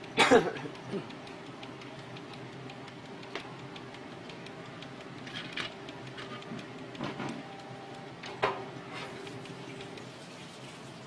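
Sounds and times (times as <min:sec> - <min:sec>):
printer clicks: 0:00.0 - 0:10.1
printer motor hum: 0:00.0 - 0:11.0.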